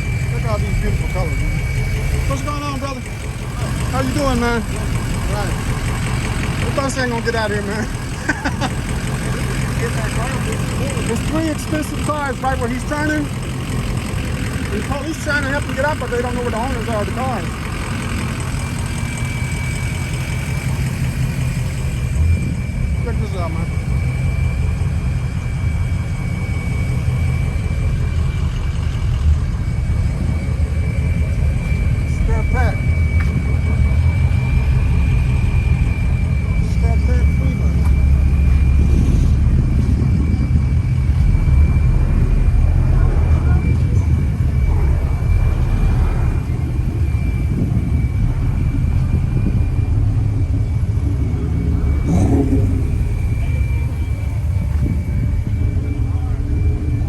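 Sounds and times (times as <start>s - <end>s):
high whine: 0.0s - 57.0s
vehicle engine idling: 0.0s - 57.0s.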